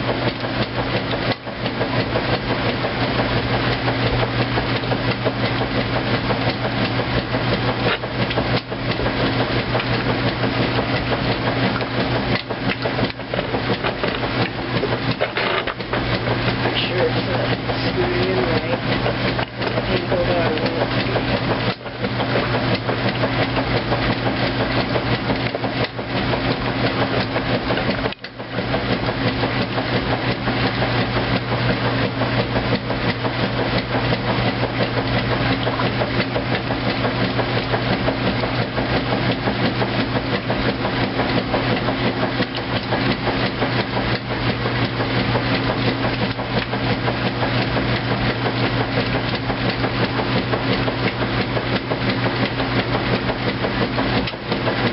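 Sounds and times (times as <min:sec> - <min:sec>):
washing machine motor hum: 0:00.0 - 0:54.9
washing machine rapid clatter: 0:00.0 - 0:54.9.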